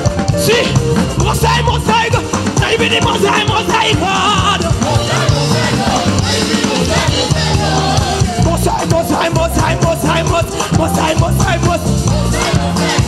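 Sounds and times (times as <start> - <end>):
live praise band music: 0.0 - 13.0
voices singing: 0.4 - 13.0.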